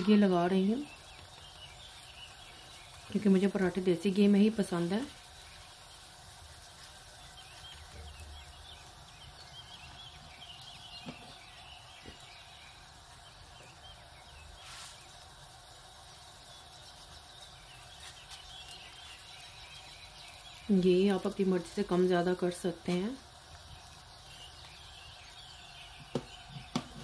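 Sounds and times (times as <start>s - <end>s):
ghee sizzling on a hot pan: 0.0s - 27.0s.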